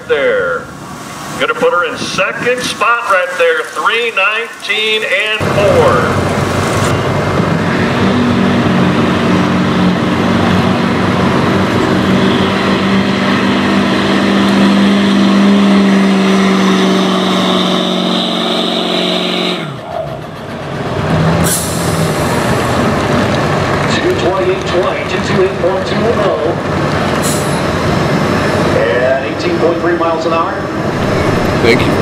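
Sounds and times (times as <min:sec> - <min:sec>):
diesel engine under load: 0:00.0 - 0:32.0.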